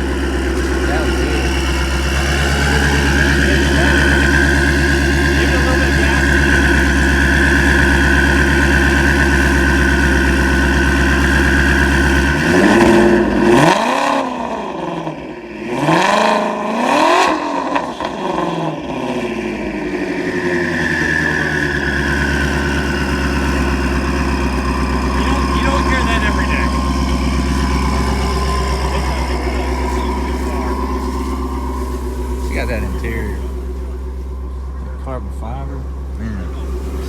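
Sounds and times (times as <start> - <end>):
car engine idling and revving: 0.0 - 37.0.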